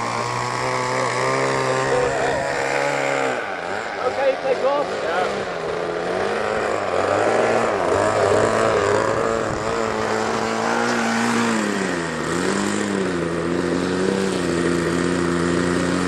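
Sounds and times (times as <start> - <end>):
model aeroplane engine buzzing: 0.0 - 16.0.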